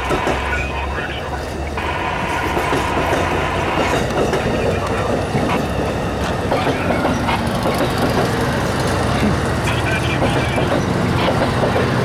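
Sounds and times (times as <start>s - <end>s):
train wheel clacks: 0.0s - 0.6s, 2.2s - 12.0s
train wheels rumbling on rails: 0.0s - 12.0s.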